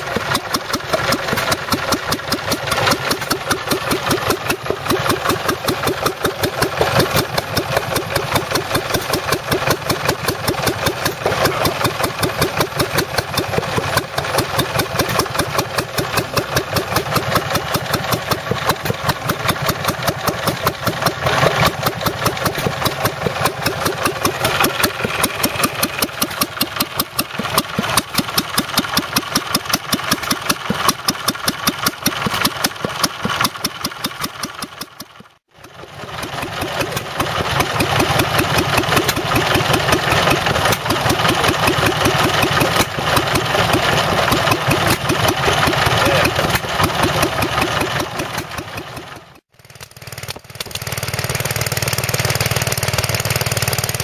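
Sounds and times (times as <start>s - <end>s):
small stationary engine running: 0.0s - 54.0s.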